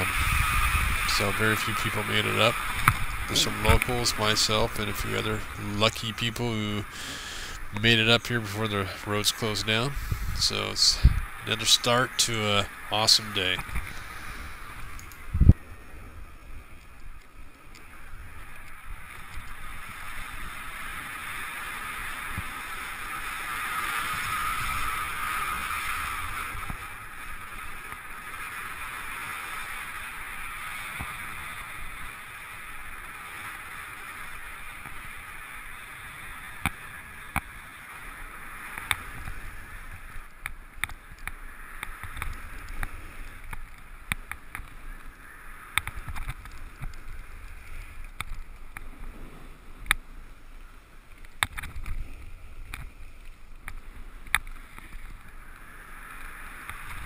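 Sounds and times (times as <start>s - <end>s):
skis sliding on snow: 0.0s - 57.0s
wind rumbling on microphone: 0.0s - 57.0s.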